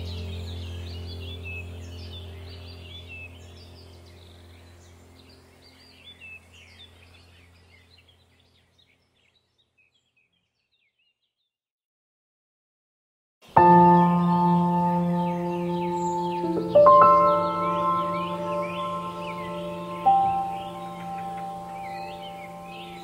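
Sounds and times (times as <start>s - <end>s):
low steady hum: 0.0s - 9.0s, 13.5s - 23.0s
birds chirping: 0.0s - 11.5s, 13.4s - 23.0s.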